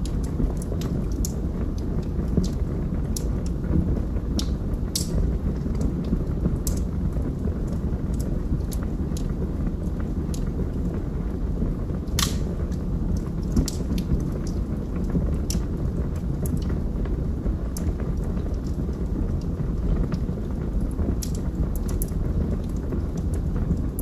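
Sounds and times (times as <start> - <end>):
fire flames rumbling: 0.0 - 24.0
logs crackling and popping: 0.0 - 24.0.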